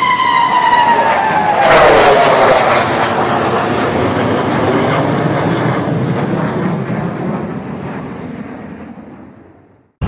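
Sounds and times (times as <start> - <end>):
fighter jets roaring overhead: 0.0 - 10.0.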